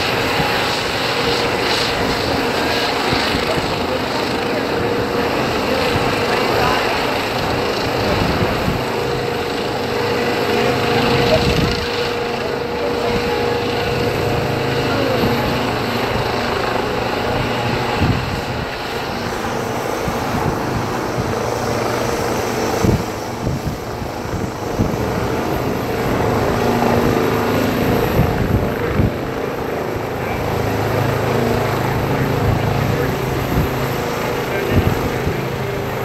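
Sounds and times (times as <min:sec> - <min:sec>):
helicopter rotor and engine: 0:00.0 - 0:36.0.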